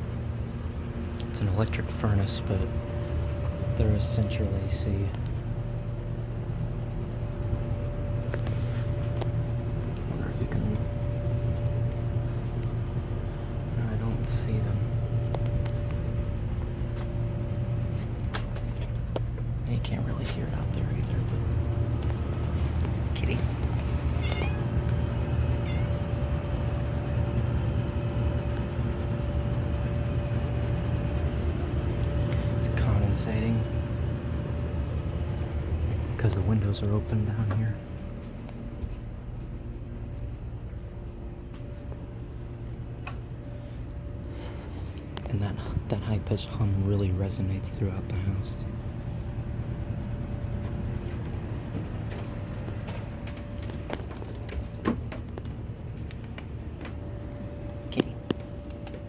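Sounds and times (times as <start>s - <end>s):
air handler rumble: 0.0s - 59.0s
constant hum: 0.0s - 59.0s.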